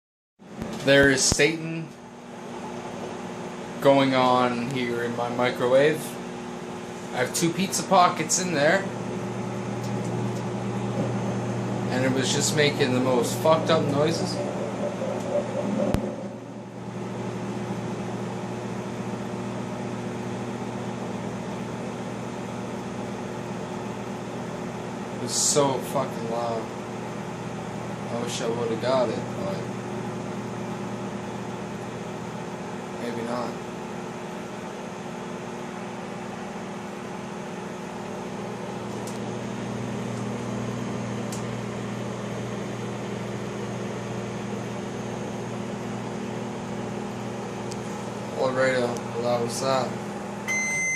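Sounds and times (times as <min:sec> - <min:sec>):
microwave oven humming: 0:00.4 - 0:50.9
fan noise: 0:00.5 - 0:50.9.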